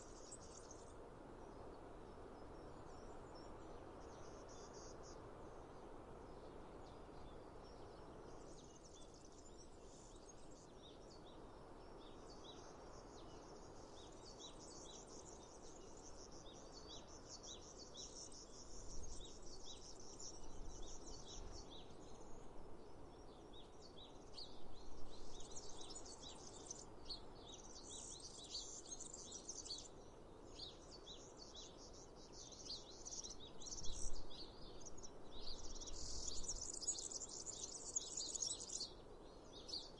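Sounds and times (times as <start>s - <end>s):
outdoor ambience hiss: 0.0s - 39.9s.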